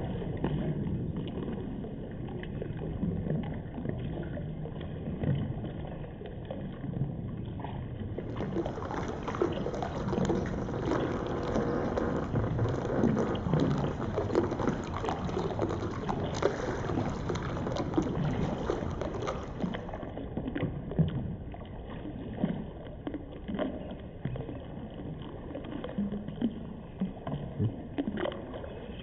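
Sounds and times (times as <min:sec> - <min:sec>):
small knocks and splashes: 0:00.0 - 0:29.0
water lapping around a kayak: 0:00.0 - 0:29.0.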